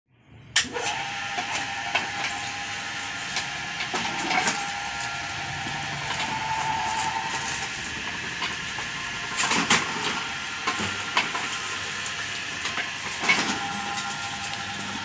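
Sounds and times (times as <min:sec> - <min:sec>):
mechanical running noise: 0:00.7 - 0:15.0.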